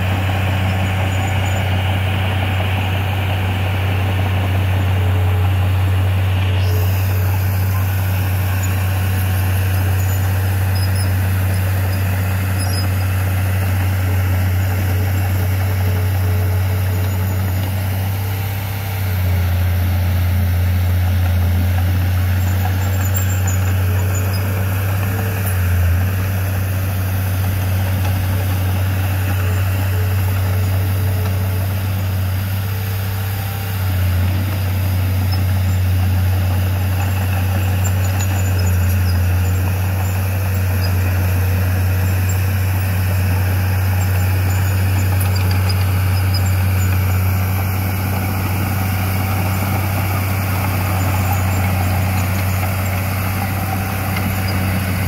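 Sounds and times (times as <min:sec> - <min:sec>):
blade pushing soil: 0:00.0 - 0:55.0
bulldozer diesel engine drone: 0:00.0 - 0:55.0.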